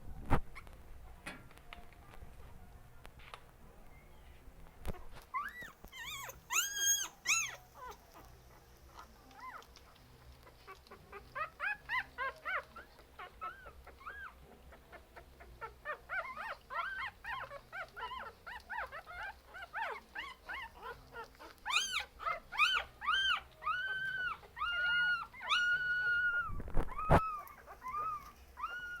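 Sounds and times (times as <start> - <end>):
puppies whining and yelping: 5.1 - 8.3, 8.9 - 29.0.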